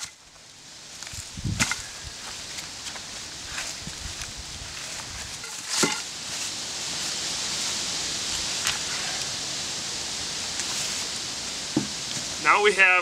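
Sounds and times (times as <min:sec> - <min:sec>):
outdoor hiss: 0:00.0 - 0:13.0
rustling in dry leaves: 0:00.0 - 0:13.0.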